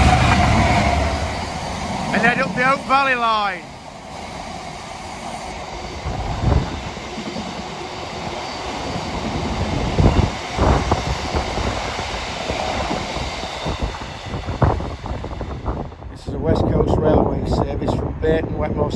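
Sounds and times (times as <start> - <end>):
freight train rolling past: 0.0 - 18.9.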